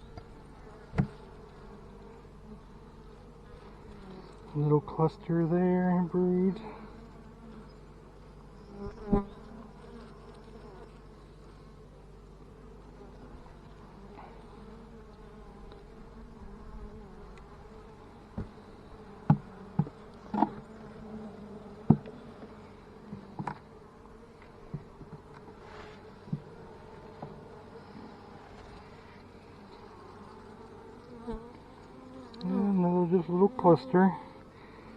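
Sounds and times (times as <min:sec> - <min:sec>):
honey bees buzzing: 0:00.0 - 0:34.9.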